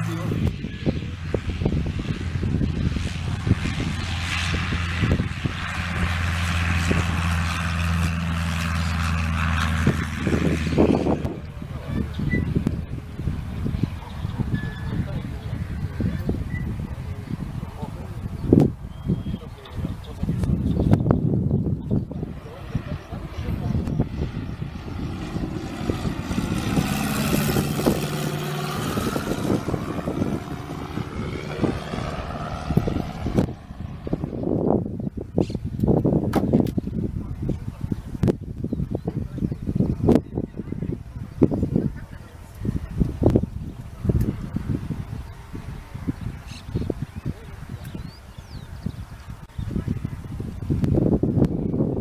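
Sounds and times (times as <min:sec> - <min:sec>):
light plane engine and propeller: 0:00.0 - 0:52.0.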